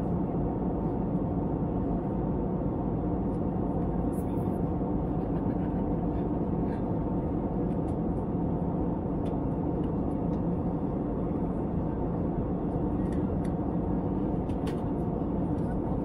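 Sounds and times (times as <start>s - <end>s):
aircraft cabin engine roar: 0.0s - 16.0s.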